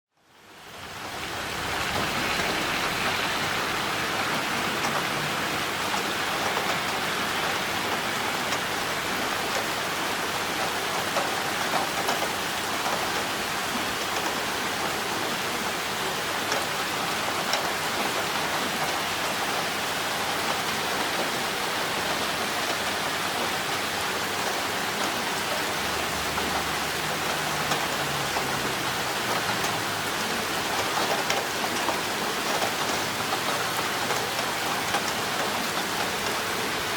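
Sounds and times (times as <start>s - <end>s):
heavy rain falling: 0.2s - 36.9s
water pouring down a drainpipe: 0.7s - 19.0s, 23.7s - 36.9s.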